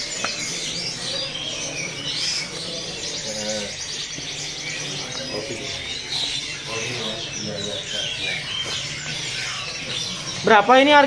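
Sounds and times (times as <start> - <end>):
canaries singing: 0.0 - 11.0.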